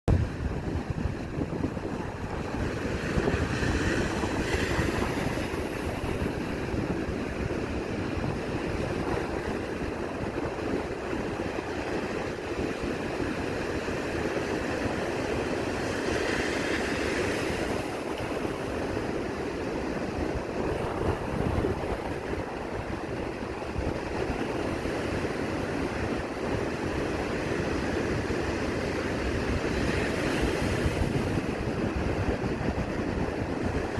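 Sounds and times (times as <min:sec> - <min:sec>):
surf breaking on the shore: 0:00.1 - 0:33.9
wind buffeting the microphone: 0:00.1 - 0:33.9.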